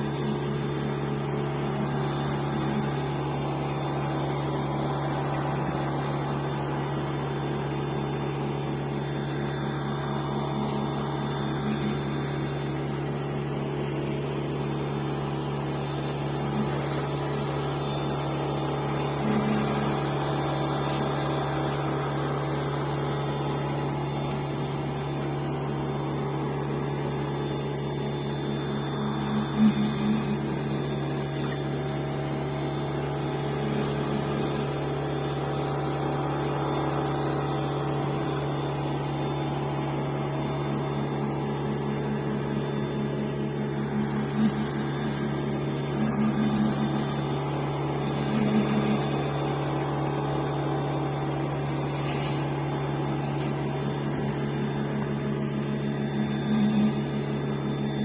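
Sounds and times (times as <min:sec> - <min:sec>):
pressure washer humming: 0:00.0 - 0:58.0.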